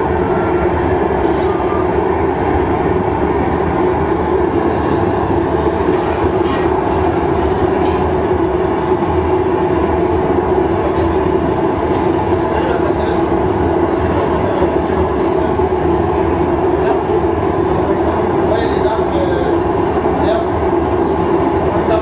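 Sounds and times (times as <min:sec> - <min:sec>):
gas furnace roaring: 0:00.0 - 0:22.0.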